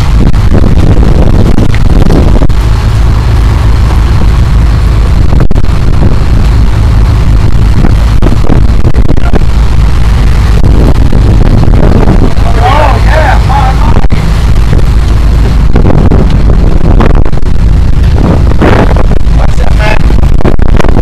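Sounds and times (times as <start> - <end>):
boat wake churning: 0.0 - 21.0
motorboat engine: 0.0 - 21.0
wind buffeting microphone: 0.0 - 21.0.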